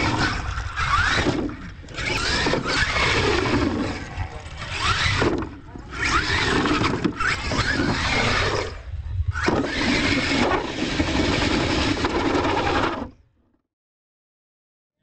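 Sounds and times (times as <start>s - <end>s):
toy truck motor revving: 0.0s - 8.8s, 9.4s - 13.2s
tyres on dirt: 0.0s - 13.0s.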